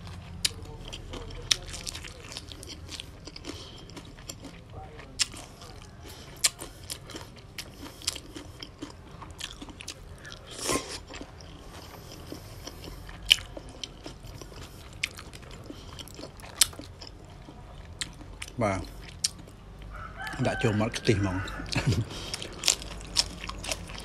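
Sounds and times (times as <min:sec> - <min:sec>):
person chewing crunchy food: 0:00.0 - 0:24.0.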